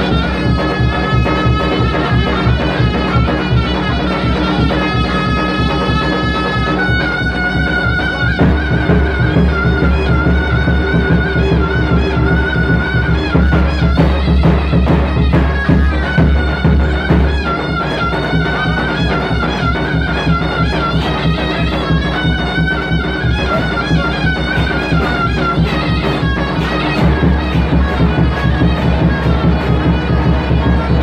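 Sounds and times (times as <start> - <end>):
drum beats: 0.0 - 31.0
high wind instrument melody: 0.0 - 31.0.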